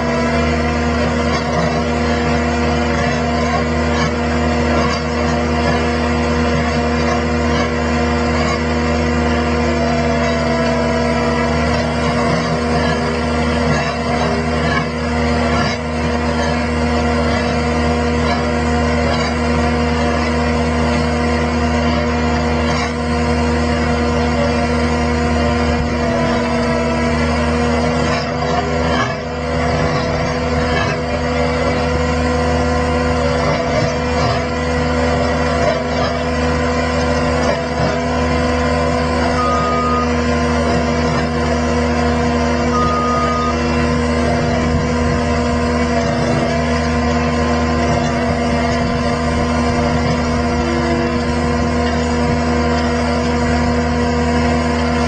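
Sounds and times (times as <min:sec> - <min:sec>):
auger boring into tree stump: 0:00.0 - 0:55.0
skid steer engine running: 0:00.0 - 0:55.0.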